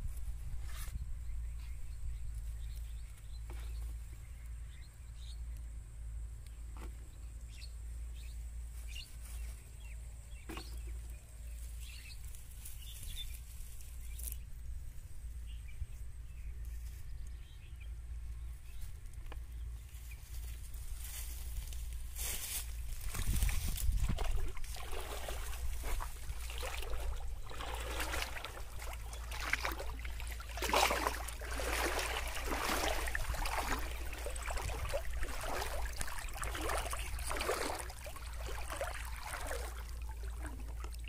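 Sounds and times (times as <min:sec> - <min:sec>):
wind rumble on microphone: 0:00.0 - 0:05.4, 0:11.7 - 0:41.0.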